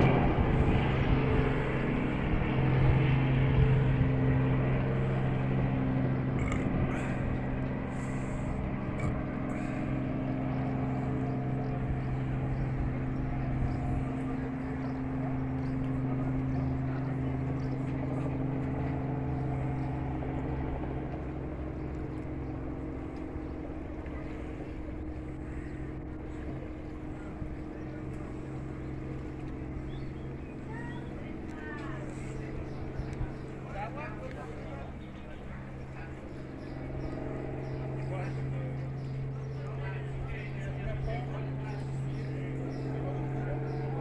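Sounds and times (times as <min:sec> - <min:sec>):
propeller airplane engine drone: 0:00.0 - 0:44.0.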